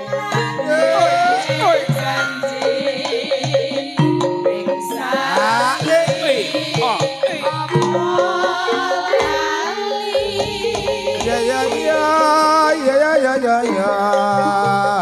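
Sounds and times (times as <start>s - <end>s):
gamelan ensemble: 0.0s - 15.0s
women singing with vibrato: 0.0s - 15.0s.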